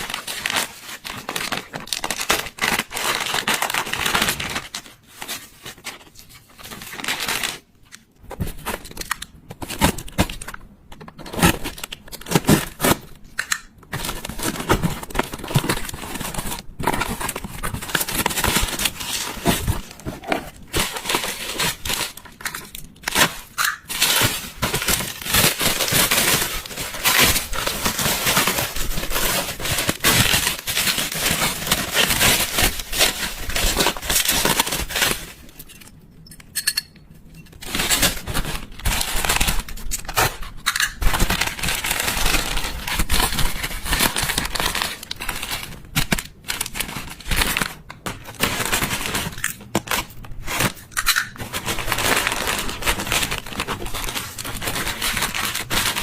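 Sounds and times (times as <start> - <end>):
packaging crinkling: 0.0 - 35.7, 37.5 - 56.0.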